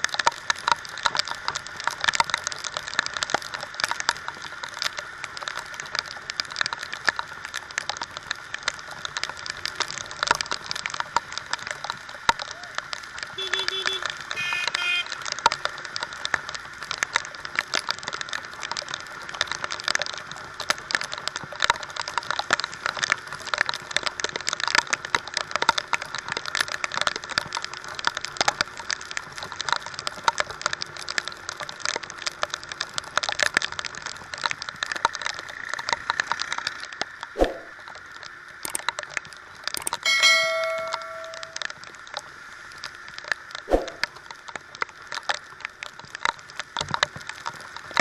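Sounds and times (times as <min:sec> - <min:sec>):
water spray hissing on road: 0:00.0 - 0:39.6
rain drops crackling on camera: 0:00.0 - 0:48.0.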